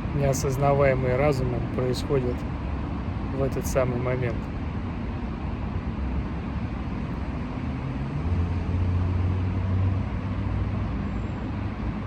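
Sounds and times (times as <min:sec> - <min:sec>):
low engine hum: 0:00.0 - 0:12.0
road traffic rumble: 0:00.0 - 0:12.0.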